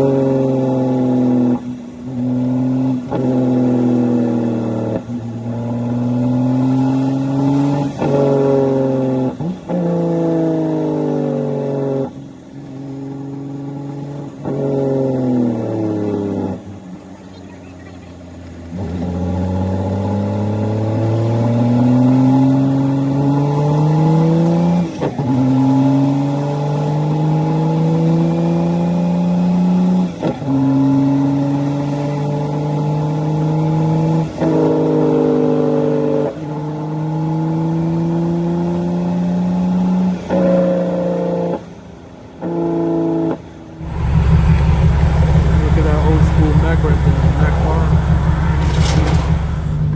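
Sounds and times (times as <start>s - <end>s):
diesel truck accelerating through gears: 0.0s - 49.9s.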